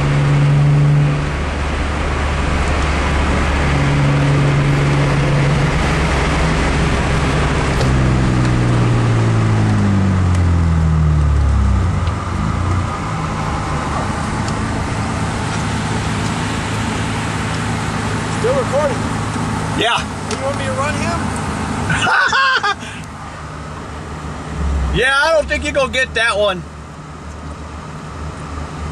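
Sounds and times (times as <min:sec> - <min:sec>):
car engine and exhaust droning: 0:00.0 - 0:28.9
road hum: 0:00.0 - 0:28.9.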